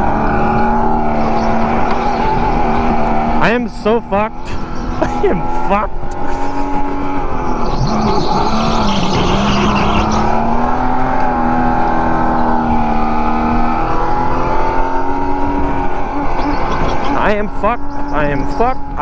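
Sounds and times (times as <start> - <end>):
go-kart motor whining: 0.0 - 19.0
tyres skidding and squealing: 0.0 - 19.0.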